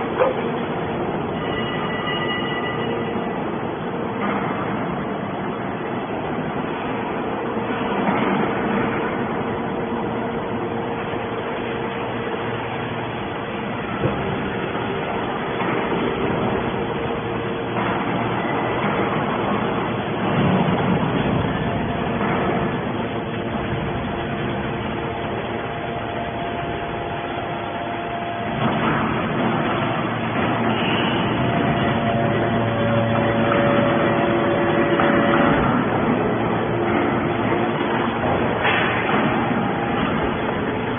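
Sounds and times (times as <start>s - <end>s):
baler machine humming: 5.5s - 40.9s.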